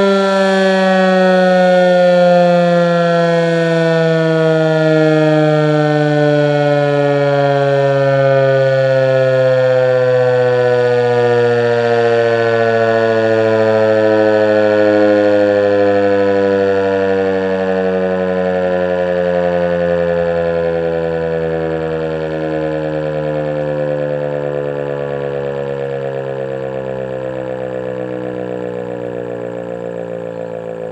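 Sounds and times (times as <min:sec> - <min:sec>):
outdoor warning siren: 0:00.0 - 0:30.9.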